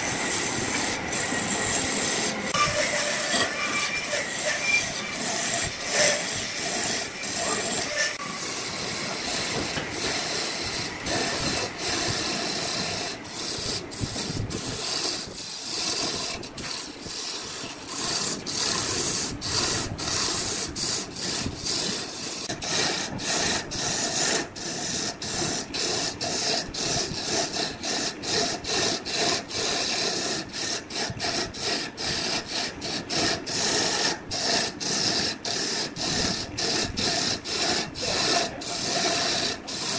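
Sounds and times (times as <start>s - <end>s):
tool scraping spinning wood: 0.0s - 39.9s.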